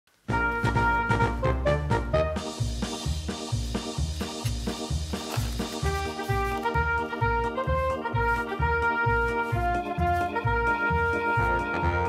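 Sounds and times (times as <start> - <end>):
background music with bass beat: 0.3 - 12.0.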